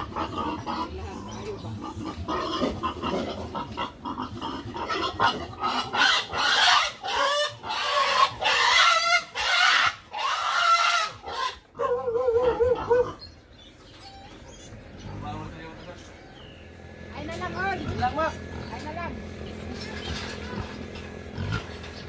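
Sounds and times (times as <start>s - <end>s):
pig squealing: 0.0s - 15.6s, 17.8s - 22.0s.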